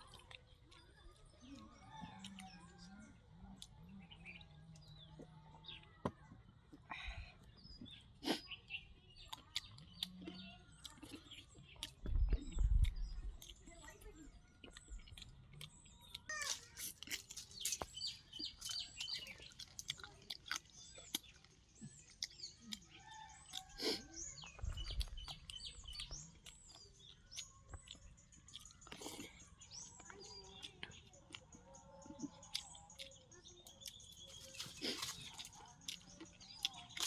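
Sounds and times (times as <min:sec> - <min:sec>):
person chewing food: 0:00.0 - 0:05.3, 0:09.2 - 0:37.0
small birds chirping: 0:00.0 - 0:37.0.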